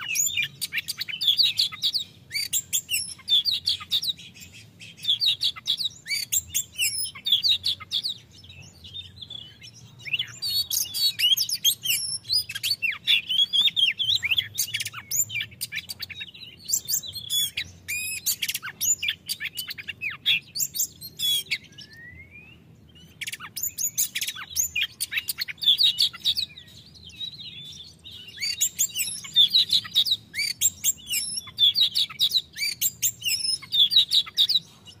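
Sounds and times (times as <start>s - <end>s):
bird singing whistles: 0.0s - 35.0s.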